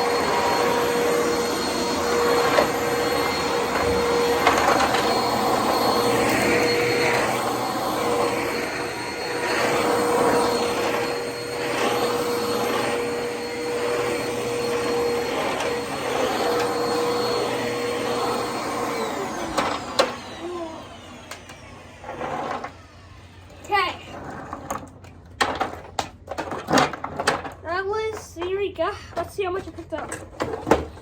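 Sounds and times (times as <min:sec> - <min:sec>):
vacuum cleaner motor whine: 0:00.0 - 0:24.8.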